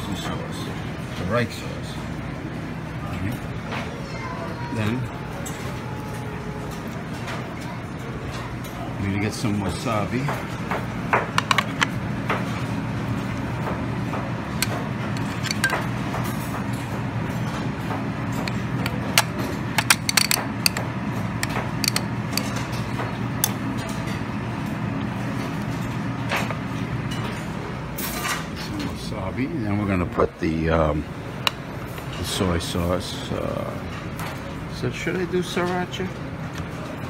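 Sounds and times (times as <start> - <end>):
steady low hum: 4.8 - 37.0.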